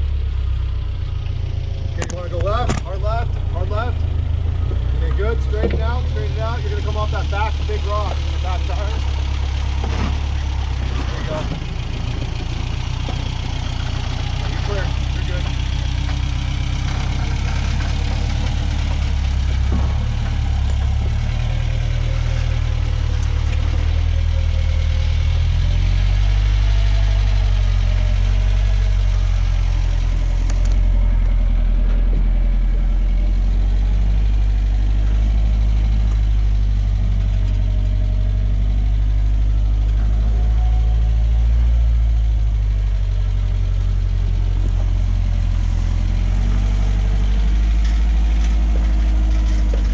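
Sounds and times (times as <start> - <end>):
truck engine running at low revs: 0.0 - 49.9.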